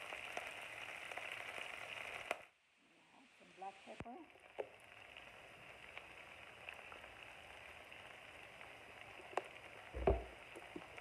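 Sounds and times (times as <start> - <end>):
small crackles: 0.0 - 2.5, 3.9 - 11.0
food sizzling in a frying pan: 0.0 - 11.0.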